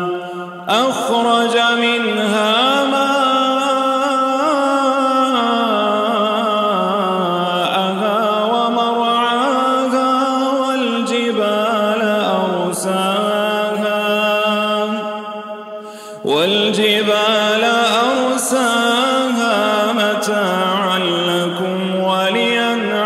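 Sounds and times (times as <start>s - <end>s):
man chanting into microphone: 0.0s - 15.6s, 16.2s - 23.0s.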